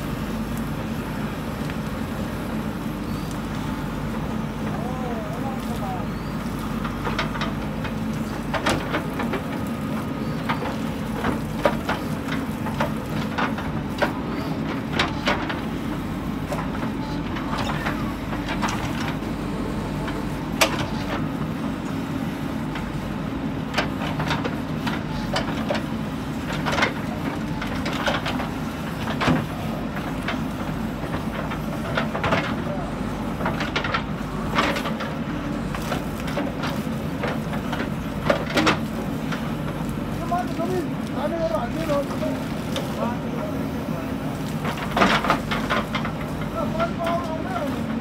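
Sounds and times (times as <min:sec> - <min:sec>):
diesel engine under load: 0:00.0 - 0:48.0.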